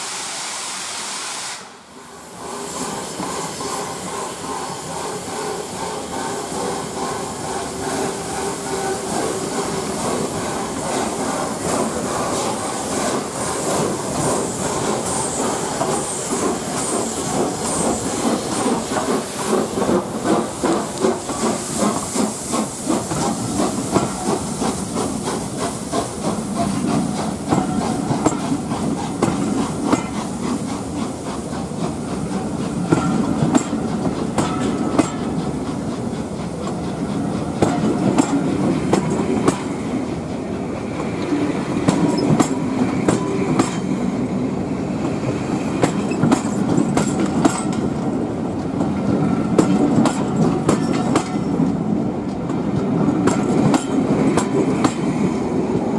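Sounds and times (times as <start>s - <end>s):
steady train rumble: 0.0s - 55.9s
train wheels clattering over rail joints: 2.8s - 55.9s.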